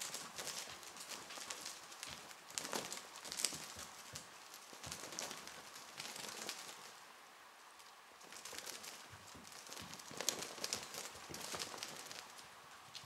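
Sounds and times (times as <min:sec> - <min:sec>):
cat paws tapping on wooden floor: 0:00.0 - 0:07.0, 0:07.8 - 0:13.0.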